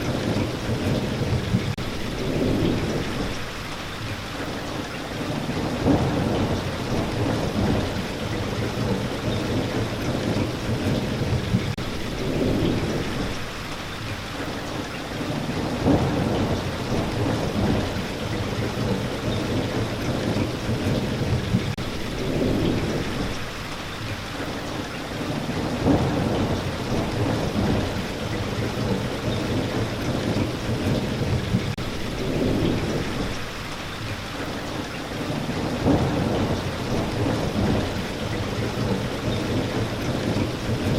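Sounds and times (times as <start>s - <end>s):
low thunder rumbling: 0.0s - 3.8s, 5.1s - 13.7s, 15.2s - 23.8s, 25.2s - 34.1s, 35.2s - 40.9s
steady rain falling: 0.0s - 40.9s.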